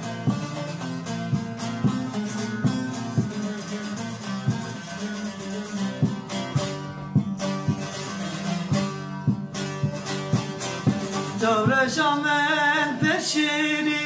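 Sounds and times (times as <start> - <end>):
steady beat: 0.0 - 12.0
plucked string instrument melody: 0.0 - 14.0.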